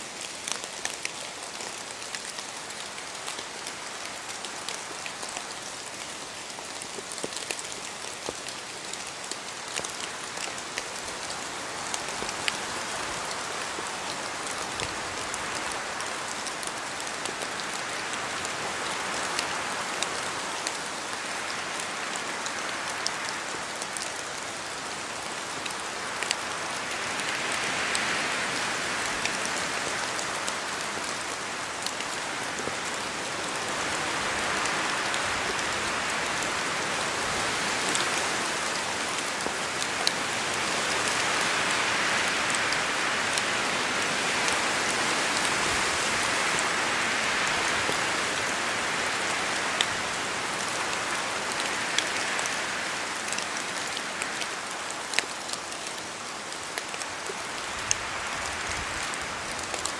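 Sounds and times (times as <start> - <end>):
rain falling through trees: 0.0 - 59.9.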